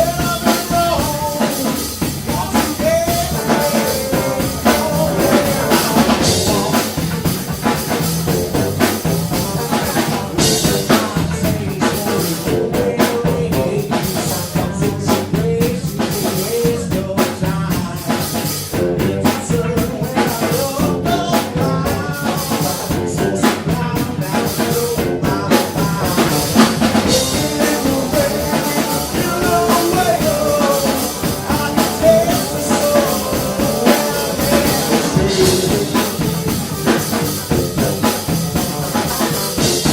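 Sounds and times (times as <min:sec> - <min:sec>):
drum kit beat: 0:00.0 - 0:39.9
guitar: 0:00.0 - 0:39.9
live rock band playing: 0:00.0 - 0:39.9
person singing: 0:00.0 - 0:39.9.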